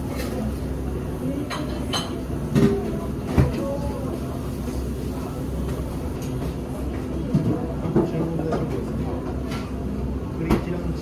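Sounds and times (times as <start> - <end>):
restaurant background rumble: 0.0 - 11.0.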